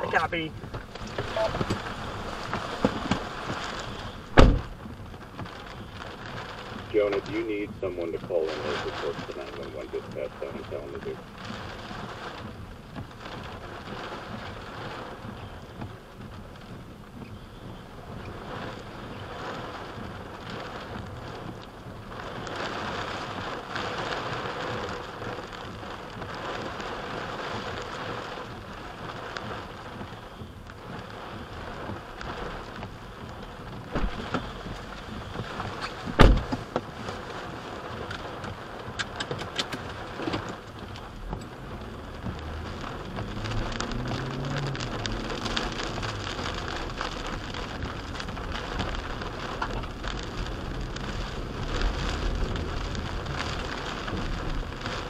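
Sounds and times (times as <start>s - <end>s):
car engine: 0.0s - 55.0s
heavy rain on car roof: 0.0s - 55.0s
tyres on wet road: 0.0s - 55.0s.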